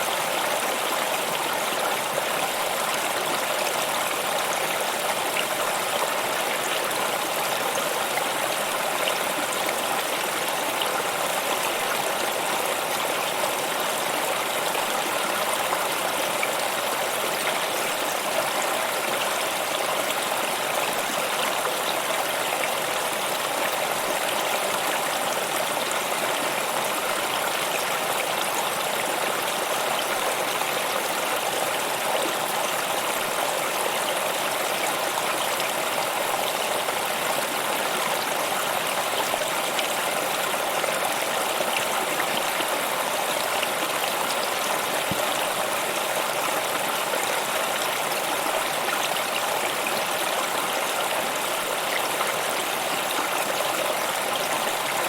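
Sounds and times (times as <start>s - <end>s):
stream water rushing and babbling: 0.0s - 55.0s.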